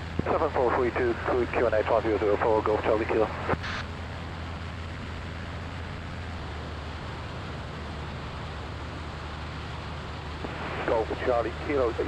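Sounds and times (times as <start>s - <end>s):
constant hiss: 0.0s - 12.0s
propeller plane engine droning: 0.0s - 12.0s.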